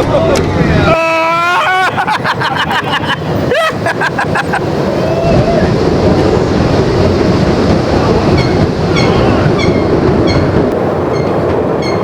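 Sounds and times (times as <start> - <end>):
ride train rumbling on track: 0.0 - 12.0.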